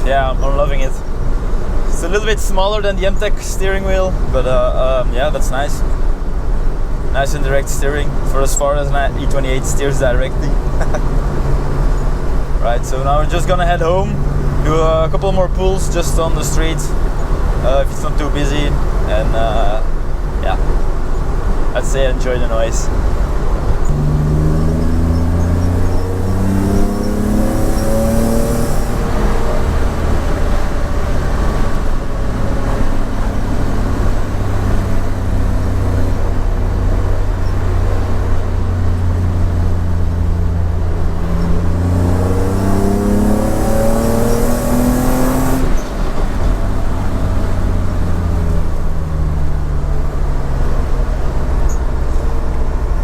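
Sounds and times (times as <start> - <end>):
car engine accelerating hard: 0.0 - 53.0.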